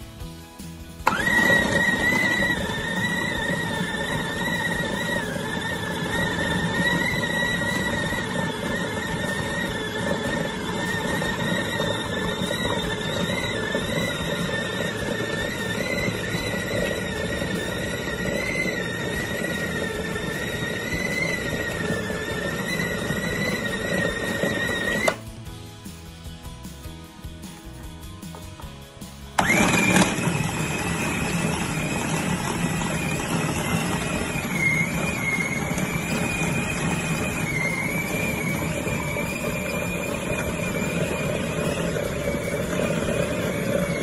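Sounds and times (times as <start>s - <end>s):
food processor motor whining: 0.2s - 25.4s, 29.4s - 44.0s.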